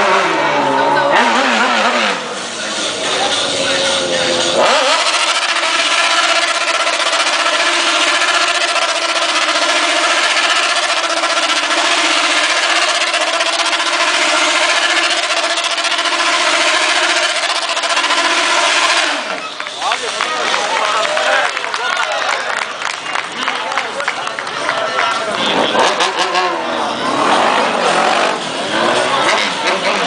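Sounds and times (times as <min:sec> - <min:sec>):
motorcycle engine revving: 0:00.0 - 0:19.6, 0:25.3 - 0:30.0.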